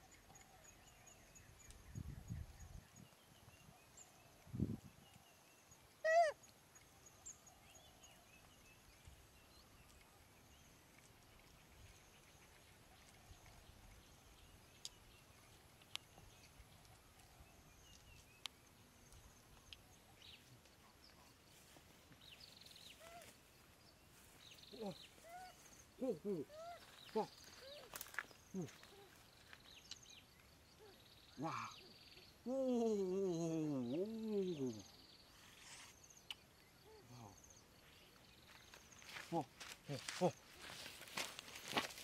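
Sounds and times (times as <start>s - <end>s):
faint bird chirps: 0.0s - 42.0s.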